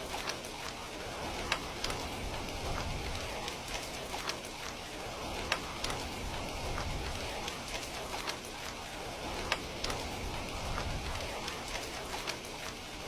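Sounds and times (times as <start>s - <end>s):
rain hissing: 0.0s - 13.0s
wood fire crackling and popping: 0.0s - 13.0s.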